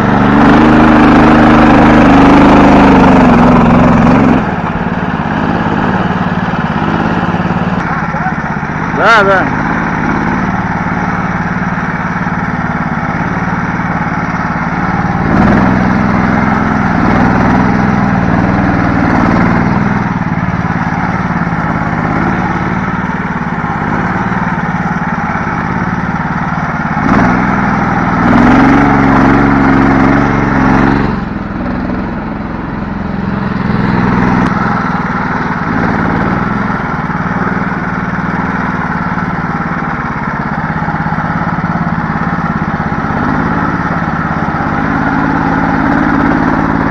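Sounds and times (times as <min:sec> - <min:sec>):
small vehicle engine running: 0:00.0 - 0:46.9.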